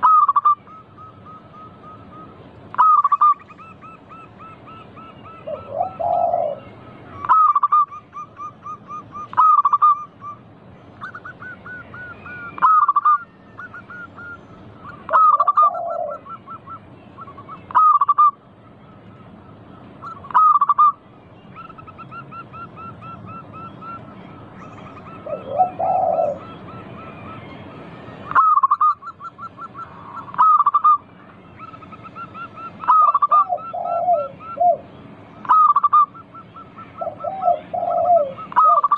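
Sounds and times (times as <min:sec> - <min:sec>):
doves singing rolling coos: 0:00.0 - 0:38.9
lower-pitched bird calling: 0:00.0 - 0:38.9.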